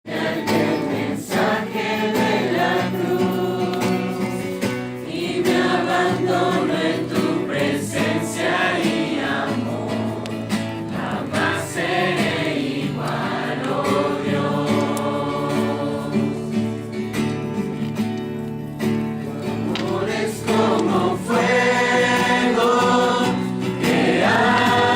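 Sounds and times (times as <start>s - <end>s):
choir-like singing voices: 0.1s - 16.8s, 19.2s - 24.9s.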